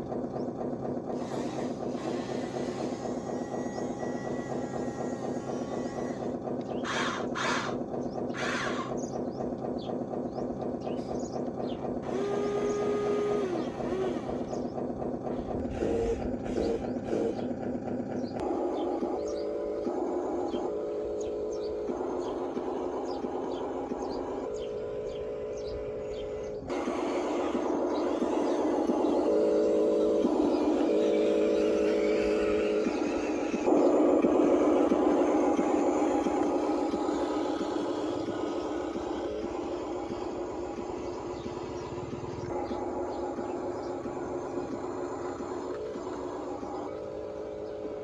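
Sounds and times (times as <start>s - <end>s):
small electric motors whirring: 0.1s - 9.6s, 11.0s - 48.0s.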